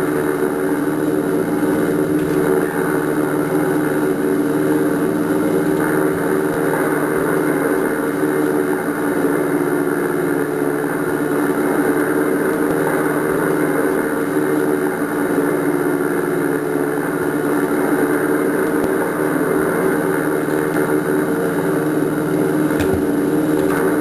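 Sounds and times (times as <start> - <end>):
steady mechanical drone: 0.0 - 24.0.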